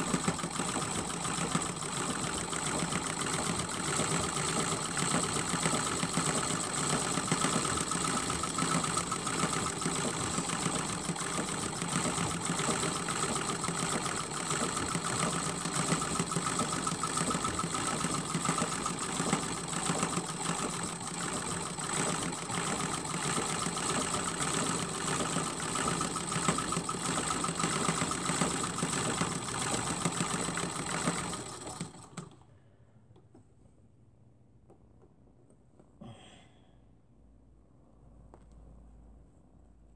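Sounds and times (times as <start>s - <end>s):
sewing machine running: 0.0s - 32.4s.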